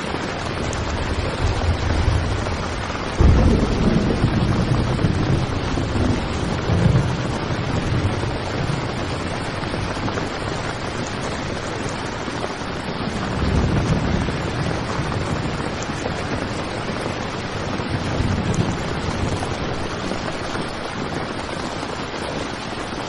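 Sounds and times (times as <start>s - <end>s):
heavy rain on a tent: 0.0s - 23.0s
thunder rumbling: 0.0s - 23.0s.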